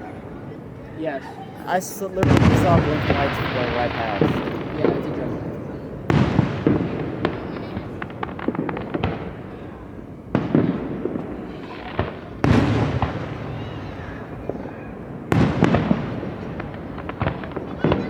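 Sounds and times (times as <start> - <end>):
fireworks crackling: 1.2 - 18.0
fireworks shells booming: 1.7 - 18.0.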